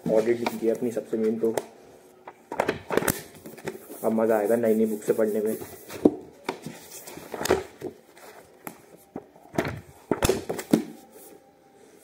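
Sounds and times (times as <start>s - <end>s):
book pages flipping: 0.0s - 1.7s, 2.3s - 11.4s.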